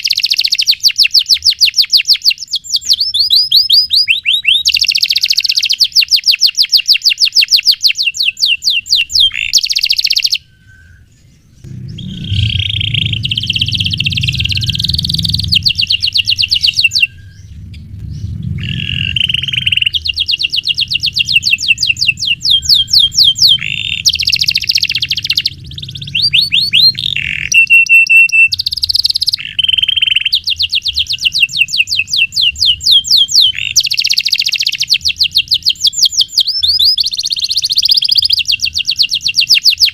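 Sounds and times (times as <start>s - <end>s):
canary held whistle: 0.0s - 11.3s, 18.6s - 39.9s
canary singing trills: 0.0s - 39.9s.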